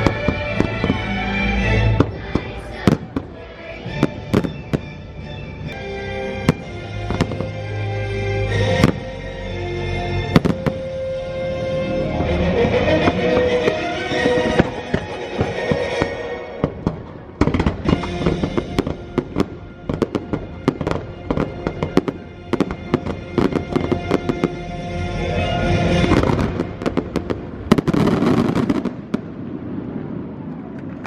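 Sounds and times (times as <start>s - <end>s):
fireworks bursting and crackling: 0.0s - 9.4s, 10.2s - 31.0s
orchestral music: 0.0s - 29.4s.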